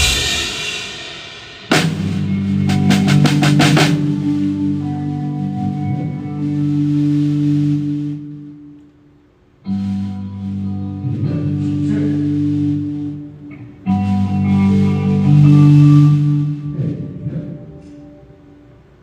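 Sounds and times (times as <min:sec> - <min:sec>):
band playing guitar and keyboard chords: 0:00.0 - 0:09.0, 0:09.6 - 0:19.0.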